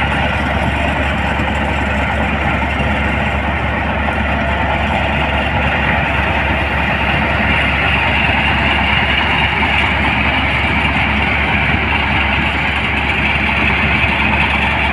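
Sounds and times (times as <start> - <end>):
rice thresher engine drone: 0.0 - 14.9.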